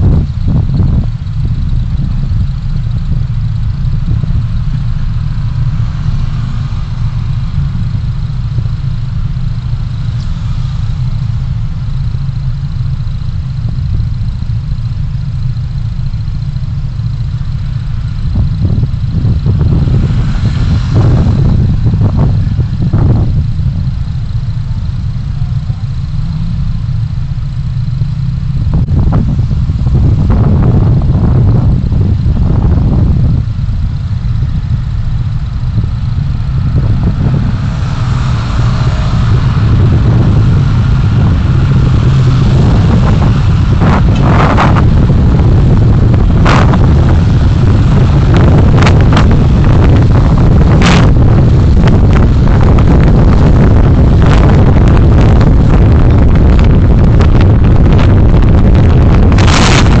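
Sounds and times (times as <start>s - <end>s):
car road and engine rumble: 0.0s - 60.0s.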